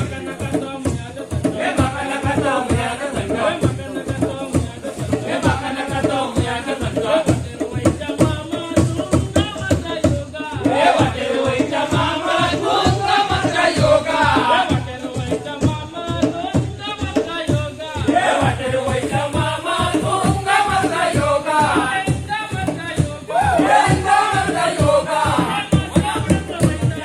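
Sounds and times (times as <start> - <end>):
fast drum beat: 0.0 - 27.0
voices singing and chanting: 0.0 - 27.0.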